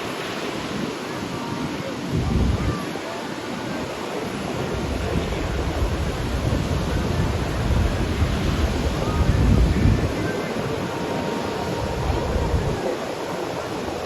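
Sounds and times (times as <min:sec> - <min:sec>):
waves washing onto beach: 0:00.0 - 0:14.0
wind buffeting microphone: 0:00.0 - 0:14.0.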